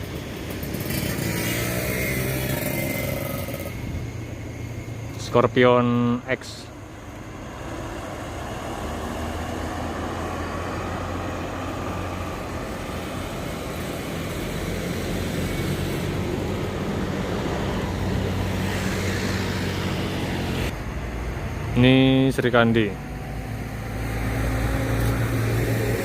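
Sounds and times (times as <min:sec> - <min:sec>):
bus engine approaching: 0:00.0 - 0:26.0
heavy diesel vehicles passing: 0:00.0 - 0:26.0
tyre and traffic noise: 0:00.0 - 0:26.0.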